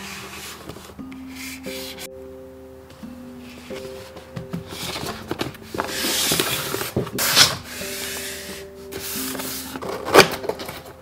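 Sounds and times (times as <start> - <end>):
box packaging rubbing and sliding: 0.0 - 2.1, 3.6 - 10.8
soft background music: 0.0 - 11.0.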